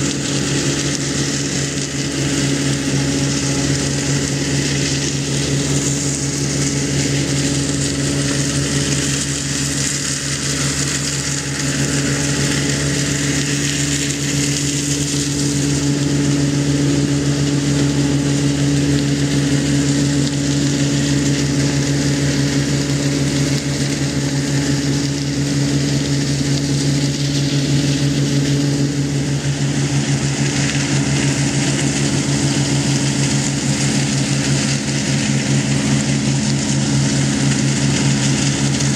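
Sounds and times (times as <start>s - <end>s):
broad rushing noise: 0.0s - 38.9s
machinery engine hum: 0.0s - 38.9s.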